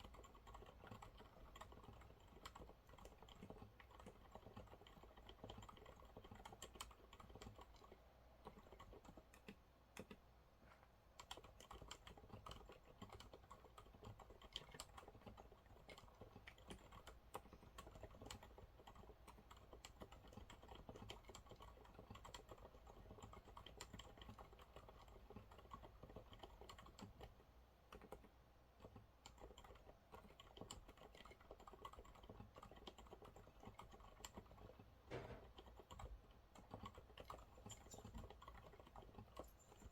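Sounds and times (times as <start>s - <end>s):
soft keyboard typing: 0.0s - 39.9s.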